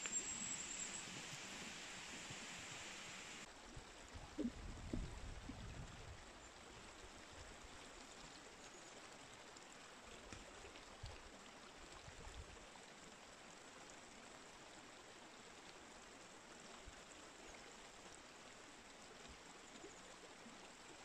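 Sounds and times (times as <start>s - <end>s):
river flowing and trickling: 0.0s - 21.0s.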